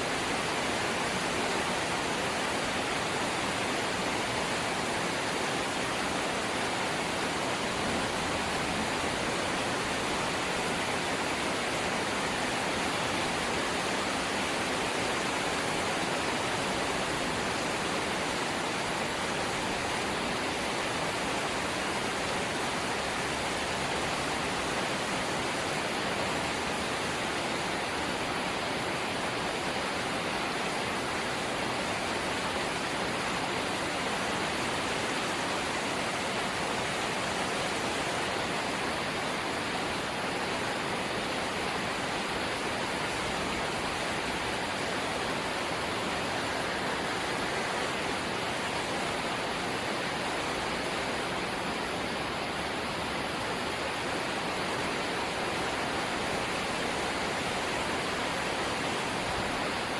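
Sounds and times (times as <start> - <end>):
light rain hiss: 0.0 - 59.9.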